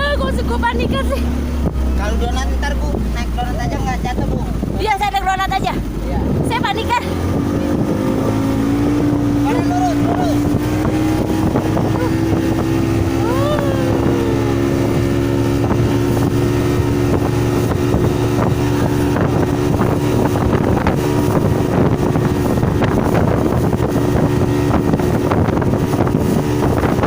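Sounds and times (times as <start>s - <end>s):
motorboat engine drone: 0.0s - 27.0s
wind buffeting microphone: 0.0s - 27.0s.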